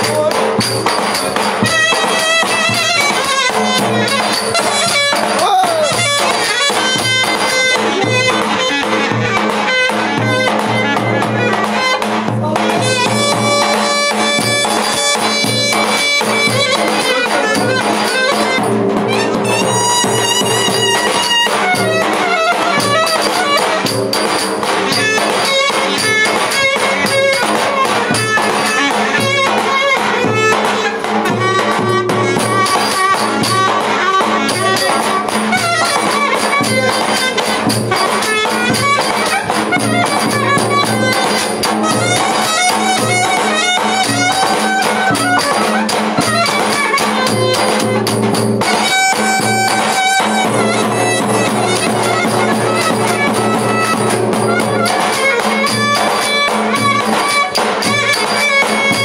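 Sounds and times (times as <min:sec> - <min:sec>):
clarinet playing dance melody: 0:00.0 - 0:59.0.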